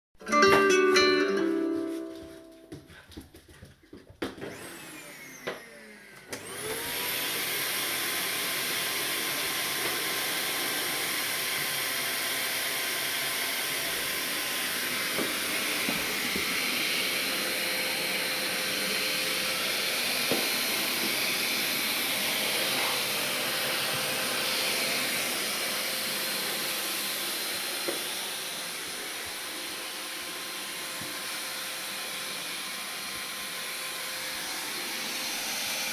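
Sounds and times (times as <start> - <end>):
vacuum cleaner motor whining: 4.3 - 35.9.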